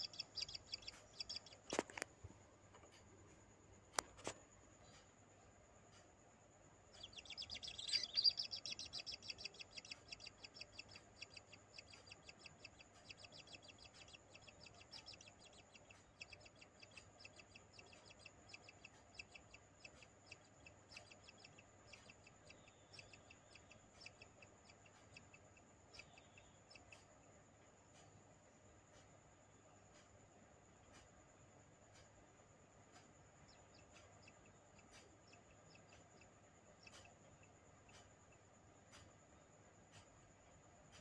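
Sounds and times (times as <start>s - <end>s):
nestlings chirping: 0.0s - 2.2s, 5.9s - 28.2s, 31.8s - 41.0s.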